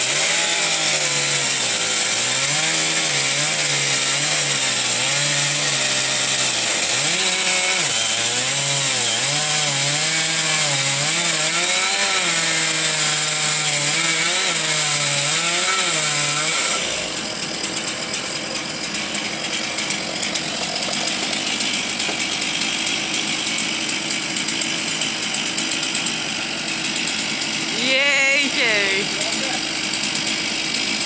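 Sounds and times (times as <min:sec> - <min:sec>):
chainsaw cutting wood: 0:00.0 - 0:31.0
chainsaw engine idling rough: 0:00.0 - 0:31.0.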